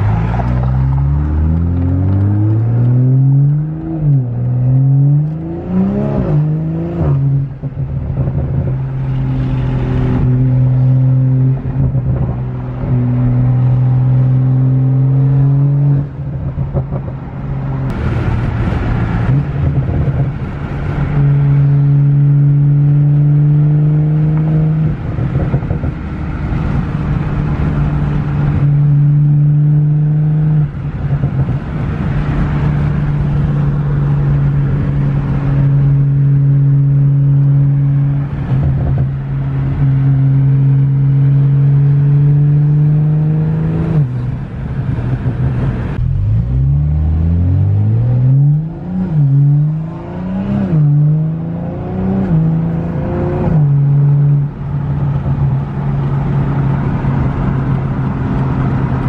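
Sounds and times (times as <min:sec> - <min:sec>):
car exhaust drone: 0:00.0 - 0:59.0.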